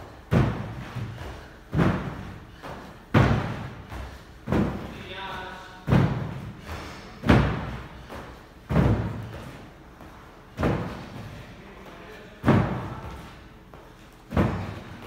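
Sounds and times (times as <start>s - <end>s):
feet thudding on wooden box: 0.0s - 5.0s, 5.7s - 11.4s, 12.4s - 15.0s.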